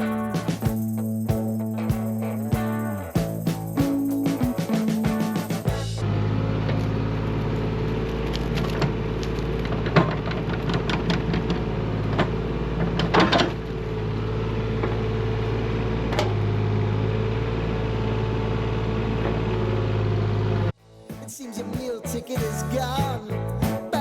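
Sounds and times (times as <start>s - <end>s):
excavator diesel engine running: 0.8s - 20.7s.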